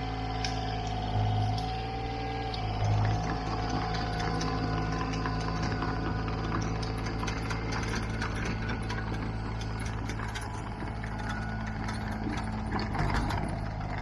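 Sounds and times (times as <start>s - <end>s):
machine humming: 0.0s - 14.0s
fast rattling clicking: 0.4s - 14.0s.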